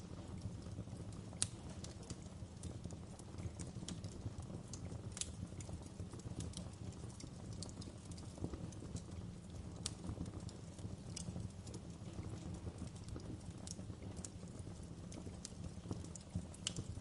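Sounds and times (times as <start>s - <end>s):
fire pops and snaps: 0.0s - 17.0s
low rumble of burning logs: 0.0s - 17.0s.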